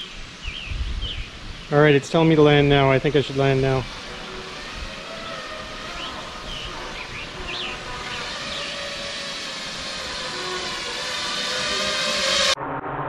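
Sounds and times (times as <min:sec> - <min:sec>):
drone motors buzzing: 0:00.0 - 0:13.0.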